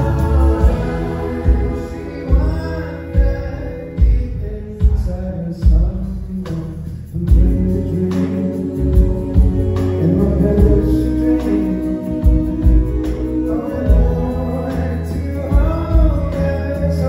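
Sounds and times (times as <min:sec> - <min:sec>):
person singing: 0:00.0 - 0:05.4, 0:07.2 - 0:17.0
bass guitar: 0:00.0 - 0:17.0
drums on a steady beat: 0:00.0 - 0:17.0.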